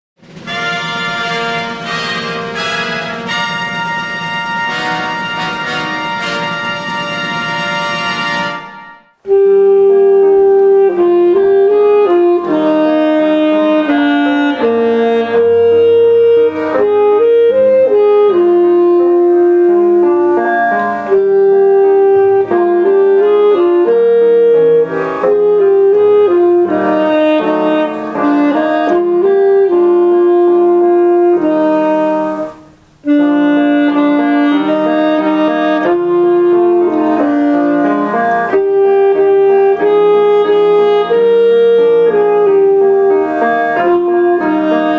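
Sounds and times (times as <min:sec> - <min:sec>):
piano accompaniment: 0:00.2 - 0:44.9
saxophone melody: 0:00.2 - 0:44.9.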